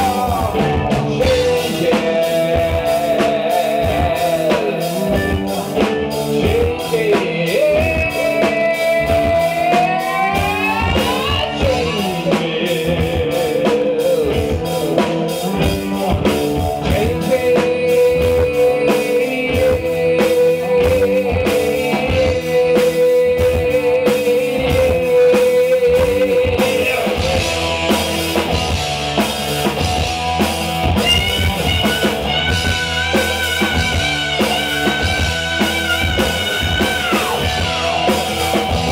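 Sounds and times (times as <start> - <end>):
person singing: 0.0 - 28.7, 30.8 - 38.9
live rock band playing: 0.0 - 38.9.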